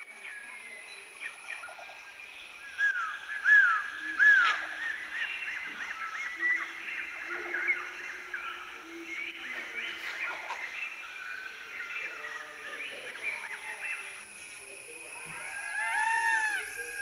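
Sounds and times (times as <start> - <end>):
birds calling whistled notes: 0.0 - 17.0.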